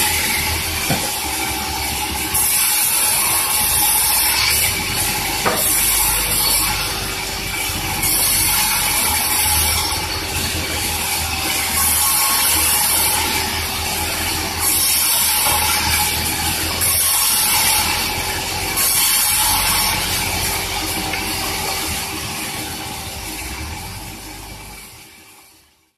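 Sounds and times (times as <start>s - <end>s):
saw cutting through log: 0.0s - 25.6s.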